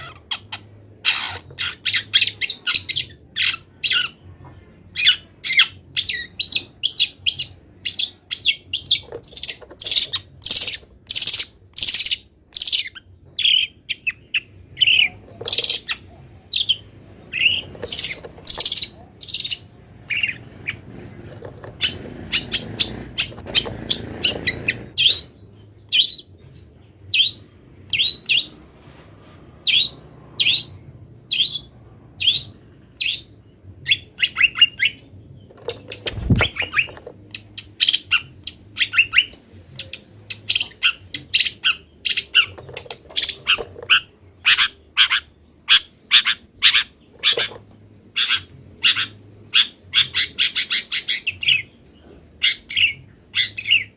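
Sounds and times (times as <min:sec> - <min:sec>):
bird chirping and squawking: 0:00.0 - 0:04.3, 0:04.9 - 0:26.4, 0:27.0 - 0:28.8, 0:29.6 - 0:51.8, 0:52.4 - 0:53.9.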